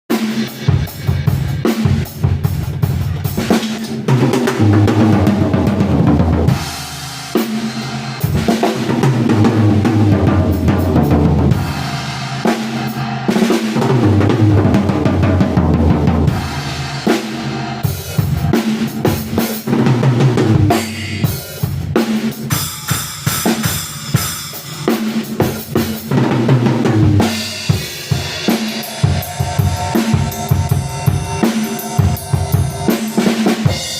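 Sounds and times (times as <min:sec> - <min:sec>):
drum kit: 0:00.0 - 0:33.9
band playing loud music: 0:00.1 - 0:33.9.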